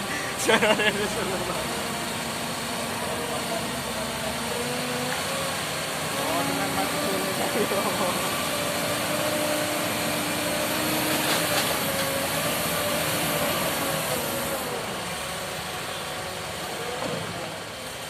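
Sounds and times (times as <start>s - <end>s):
heavy truck engine running: 0.0s - 18.0s.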